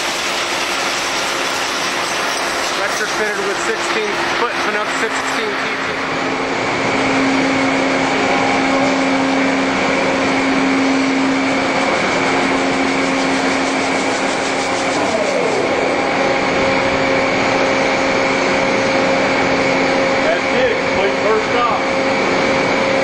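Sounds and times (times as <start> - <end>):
coolant flowing: 0.0 - 23.0
lathe machine hum: 0.0 - 23.0.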